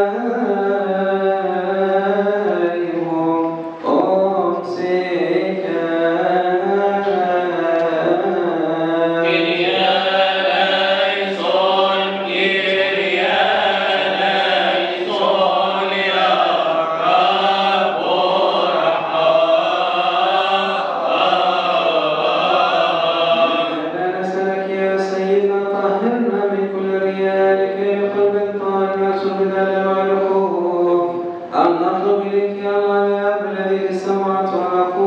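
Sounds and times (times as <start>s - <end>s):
man chanting through a microphone: 0.0s - 35.0s.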